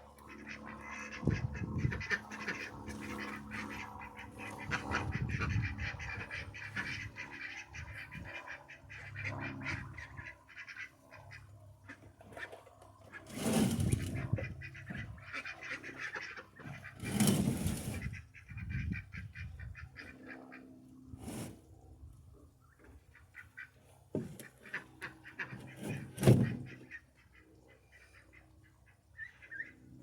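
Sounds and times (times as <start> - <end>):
ducks quacking: 0.0 - 20.8, 22.6 - 30.0.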